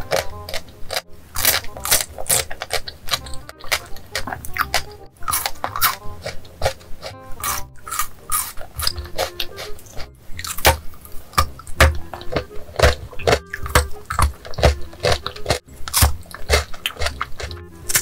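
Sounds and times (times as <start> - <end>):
chocolate crunching: 0.0 - 18.0
soft background music: 0.0 - 18.0.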